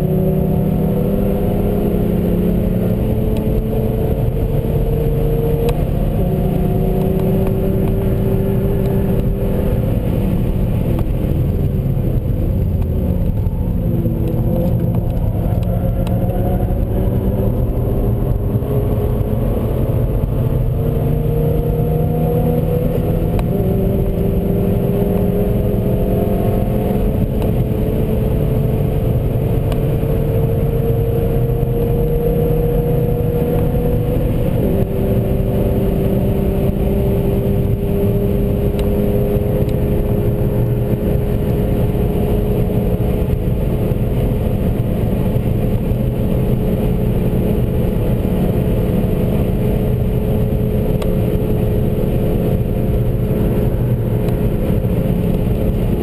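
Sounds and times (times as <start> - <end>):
car engine accelerating hard: 0.0 - 56.0
tyre and wind noise: 0.0 - 56.0.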